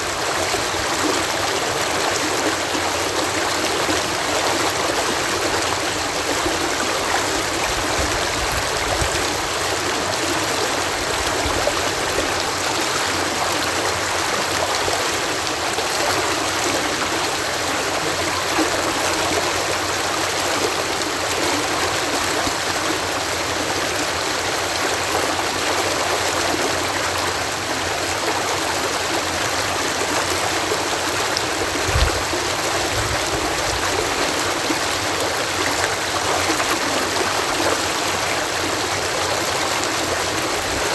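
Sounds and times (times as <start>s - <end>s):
water rushing over lock: 0.0s - 40.9s.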